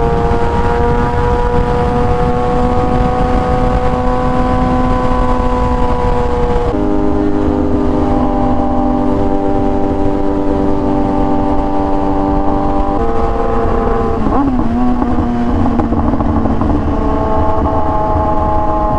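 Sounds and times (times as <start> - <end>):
motorcycle engine running: 0.0 - 18.9
wind noise: 0.0 - 18.9.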